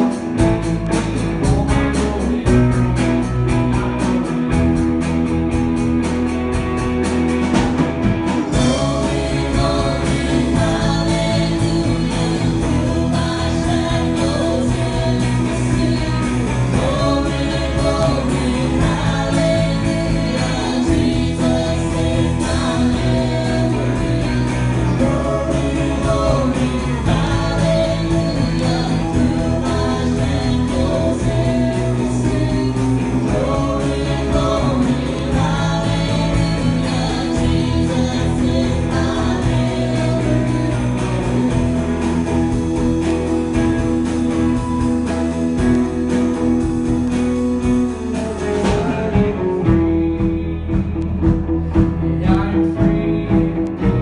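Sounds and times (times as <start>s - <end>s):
gospel music with guitar and singing: 0.0s - 54.0s.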